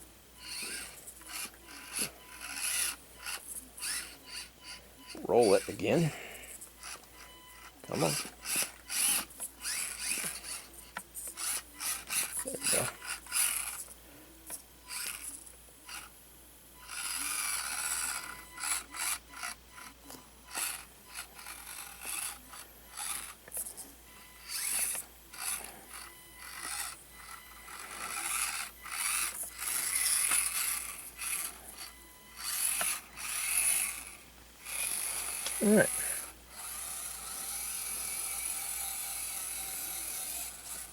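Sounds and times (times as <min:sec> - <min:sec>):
small electric motor whirring: 0:00.0 - 0:40.9.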